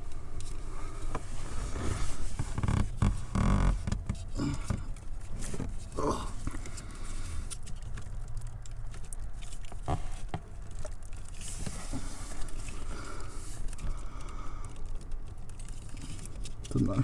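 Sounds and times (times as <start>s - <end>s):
light knocks and handling rustle: 0.0s - 14.0s
low steady rumble: 0.0s - 17.0s.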